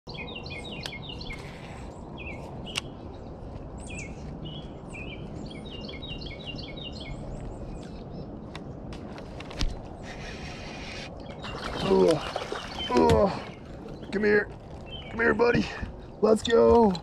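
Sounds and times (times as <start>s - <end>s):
songbirds chirping: 0.1s - 17.0s.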